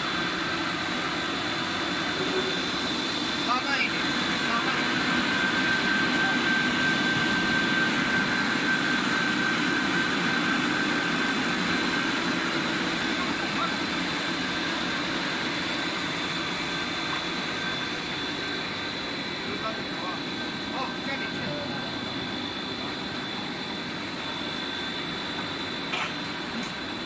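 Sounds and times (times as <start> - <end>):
machine motors and blowers: 0.0 - 27.0.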